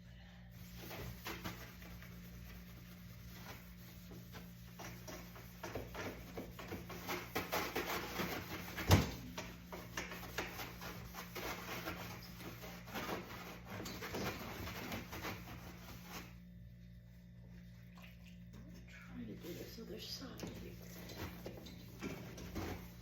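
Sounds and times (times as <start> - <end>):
hand scrubbing dishwasher tub: 0.6 - 16.4, 19.2 - 23.0.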